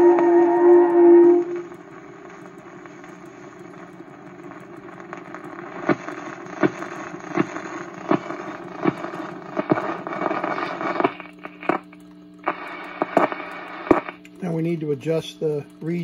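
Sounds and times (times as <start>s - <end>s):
amplifier hum: 0.0s - 16.0s
record surface hiss: 0.0s - 16.0s
record stylus clicks: 0.1s - 14.4s.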